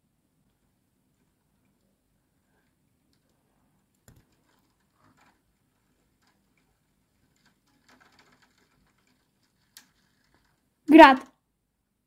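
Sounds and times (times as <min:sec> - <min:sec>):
rain ticking on a window: 0:00.3 - 0:10.9.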